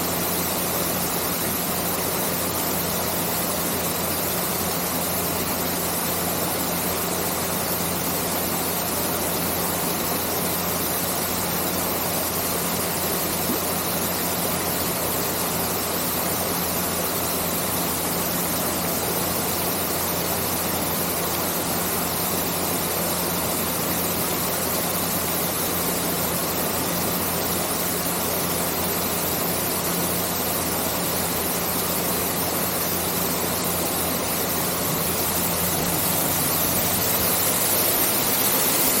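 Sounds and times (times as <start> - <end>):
waterfall pouring into pool: 0.0 - 39.0.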